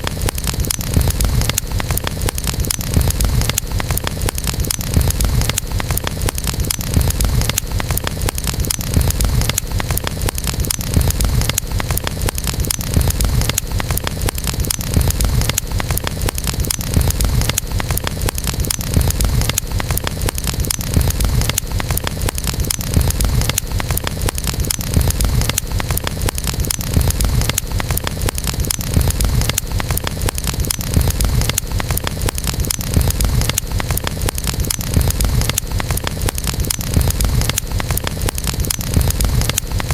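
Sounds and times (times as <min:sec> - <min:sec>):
campfire crackling and popping: 0:00.0 - 0:39.9
low rumble of burning wood: 0:00.0 - 0:39.9.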